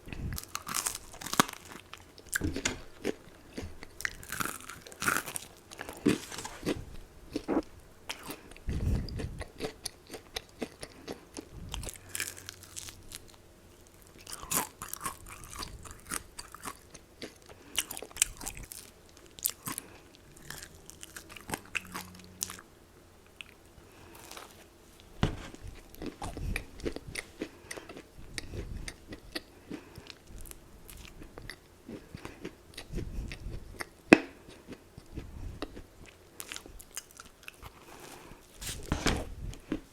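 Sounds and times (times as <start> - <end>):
crunchy chewing: 0.1 - 22.7, 23.3 - 39.9.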